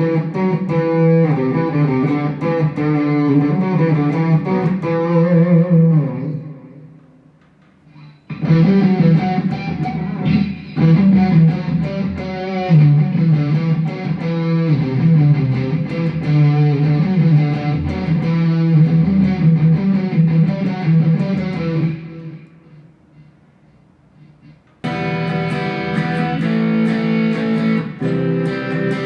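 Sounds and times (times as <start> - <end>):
electric guitar picked and strummed: 0.0 - 7.0, 7.9 - 22.8, 24.4 - 29.0.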